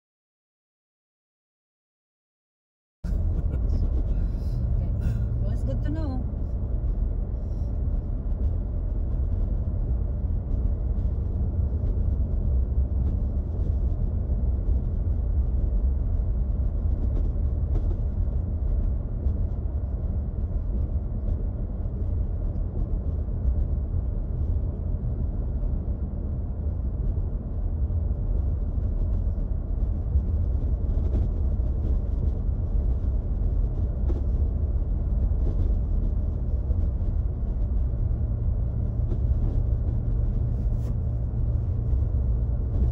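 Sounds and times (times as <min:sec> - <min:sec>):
road and engine noise in car: 0:03.1 - 0:42.9.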